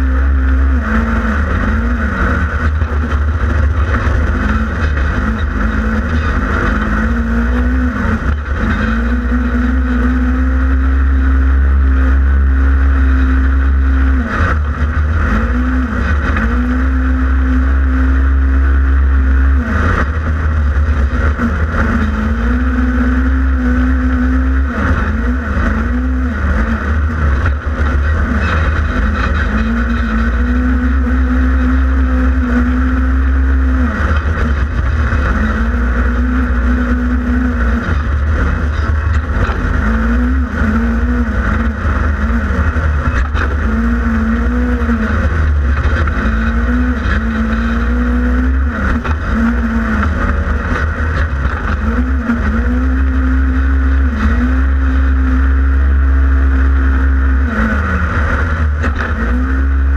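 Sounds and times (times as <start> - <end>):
engine revving hard: 0.0 - 59.9.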